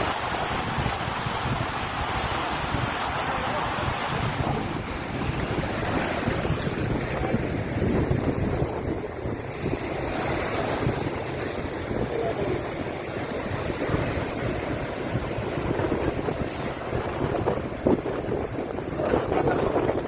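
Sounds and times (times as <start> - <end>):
rushing water: 0.0 - 20.0
surf: 0.0 - 20.0
wind buffeting microphone: 0.0 - 20.0.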